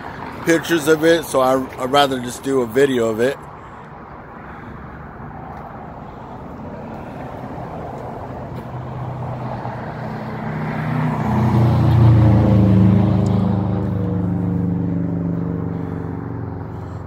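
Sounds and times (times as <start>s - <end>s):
outdoor background noise: 0.0s - 17.0s
vehicle engine humming: 0.0s - 17.0s.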